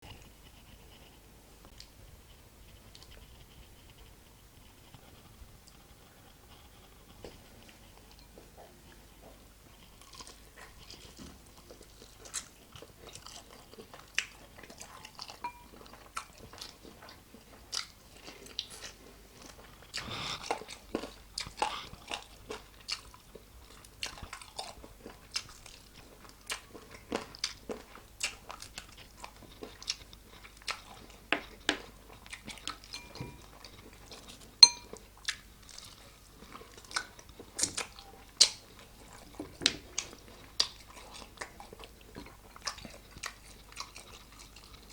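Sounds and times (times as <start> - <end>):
person chewing crunchy food: 7.0 - 44.9.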